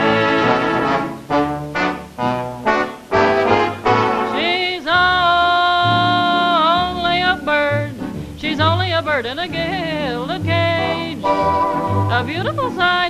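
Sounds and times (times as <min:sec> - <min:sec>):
orchestra playing: 0:00.0 - 0:04.6, 0:06.1 - 0:13.0.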